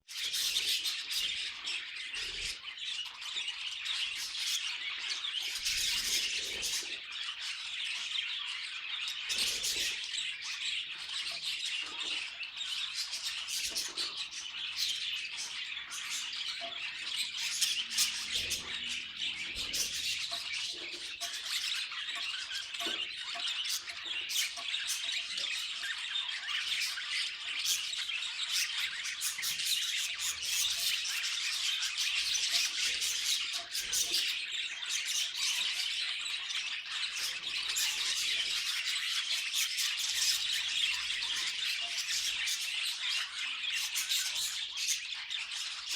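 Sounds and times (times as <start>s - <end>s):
budgerigars chirping and squawking: 0.1s - 45.9s.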